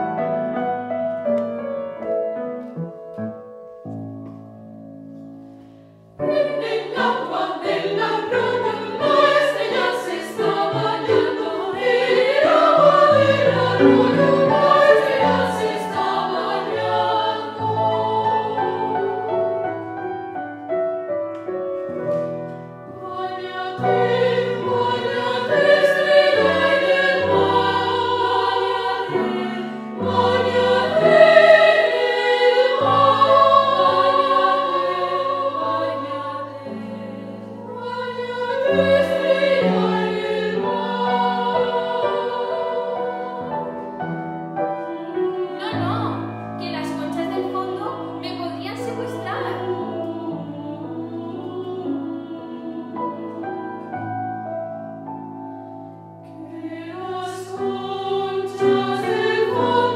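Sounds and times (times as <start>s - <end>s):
piano accompaniment: 0.0s - 59.9s
women's choir singing: 6.2s - 20.0s, 22.9s - 54.4s, 56.2s - 59.9s.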